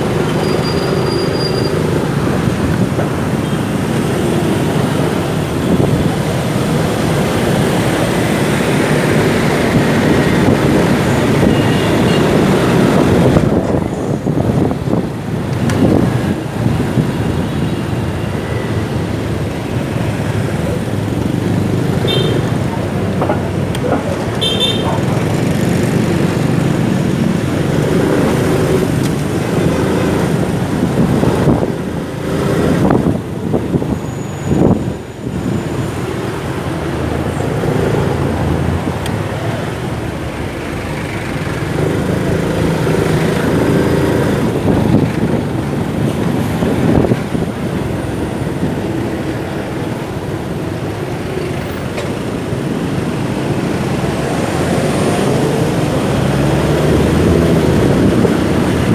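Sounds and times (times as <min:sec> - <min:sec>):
city traffic noise: 0:00.0 - 0:58.9.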